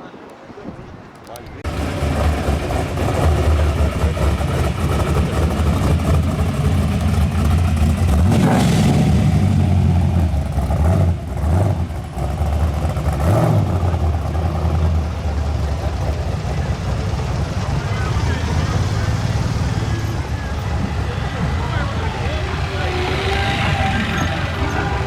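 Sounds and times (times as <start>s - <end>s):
car engine rumbling and revving: 1.6s - 25.0s.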